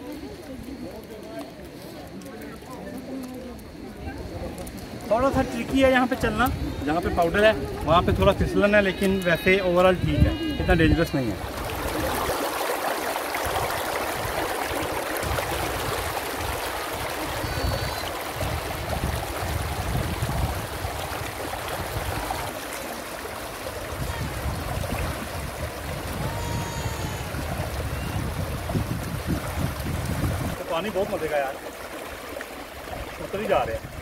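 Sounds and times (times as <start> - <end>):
water trickling down a channel: 0.0 - 34.0.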